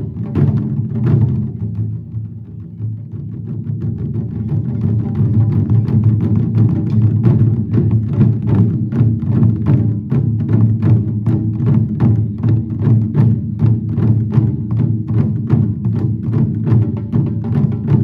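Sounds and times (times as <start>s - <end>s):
large drums beating: 0.0s - 18.0s.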